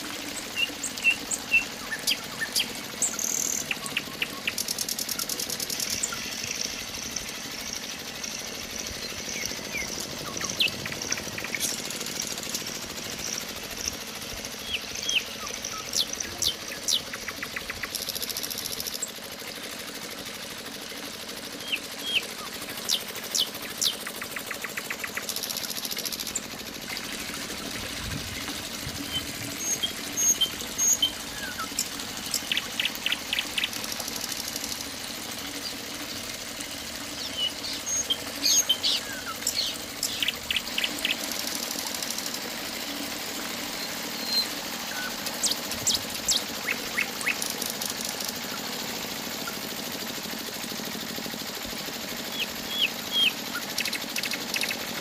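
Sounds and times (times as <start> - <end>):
birds chirping: 0.0 - 19.7, 21.5 - 49.7, 52.2 - 55.0
small motor humming: 0.0 - 55.0.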